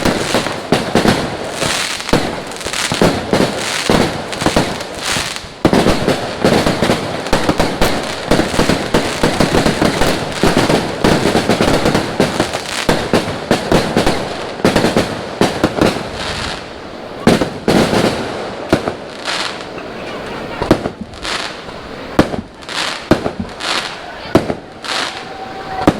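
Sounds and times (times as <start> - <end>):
fireworks and firecrackers banging: 0.0 - 25.9.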